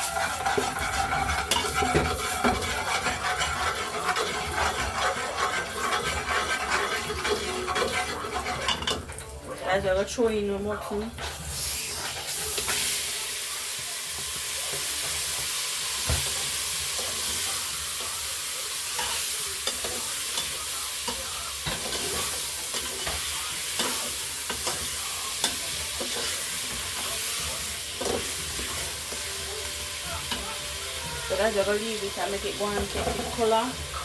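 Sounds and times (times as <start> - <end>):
meat sizzling in oil: 0.0 - 9.4, 10.8 - 34.0.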